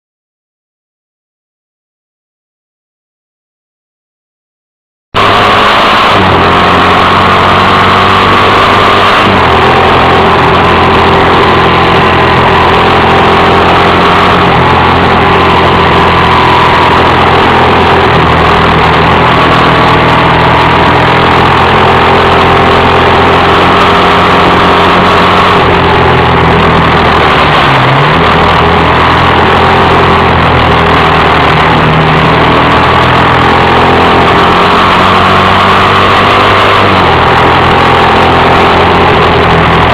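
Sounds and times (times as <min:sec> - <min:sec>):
motorcycle engine running: 0:05.2 - 0:39.9.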